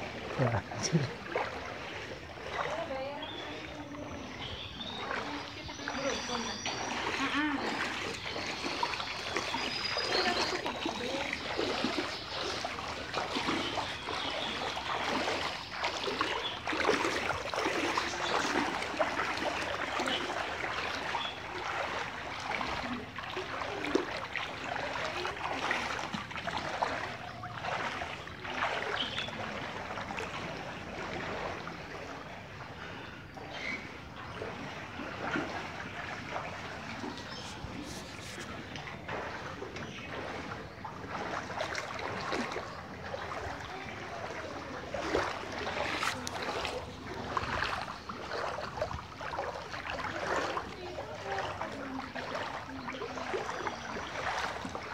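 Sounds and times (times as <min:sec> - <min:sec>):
feet wading through water: 0:00.0 - 0:54.9.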